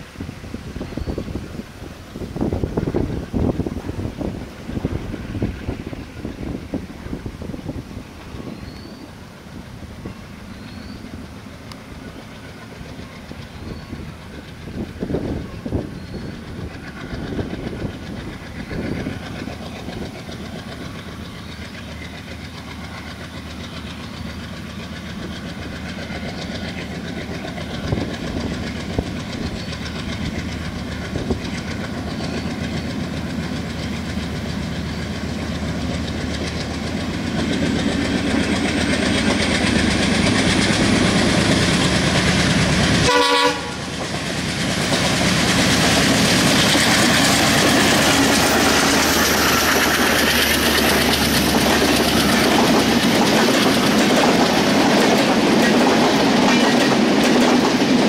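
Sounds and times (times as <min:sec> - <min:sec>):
diesel locomotive engine under load: 0:00.0 - 0:58.0
train wheels clicking over rail joints: 0:00.0 - 0:58.0.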